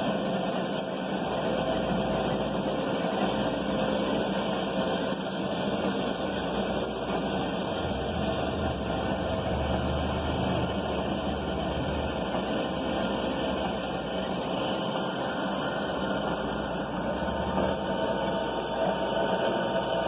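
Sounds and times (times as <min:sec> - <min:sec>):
motor and spool whirring: 0:00.0 - 0:20.0.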